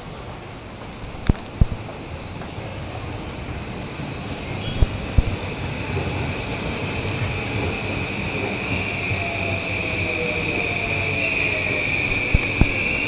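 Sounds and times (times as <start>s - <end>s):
electric train high-pitched whine: 1.8s - 13.0s.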